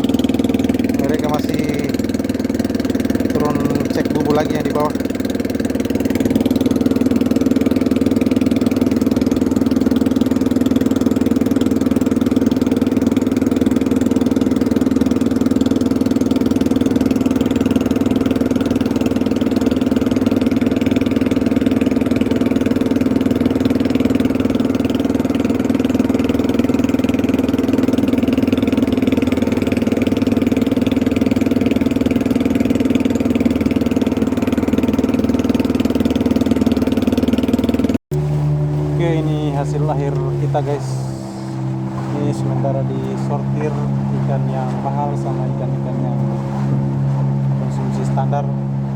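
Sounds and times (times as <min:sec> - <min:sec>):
boat engine humming: 0:00.0 - 0:48.9.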